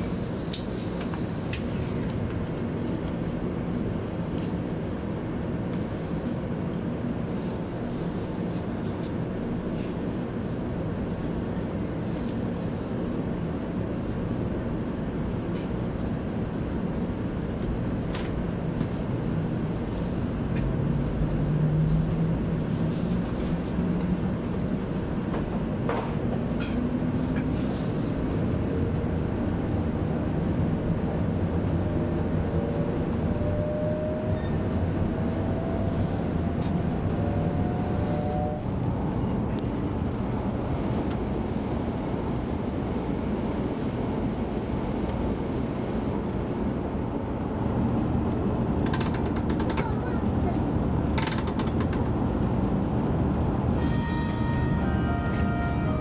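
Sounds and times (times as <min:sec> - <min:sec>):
train cabin rumble: 0:00.0 - 0:56.0.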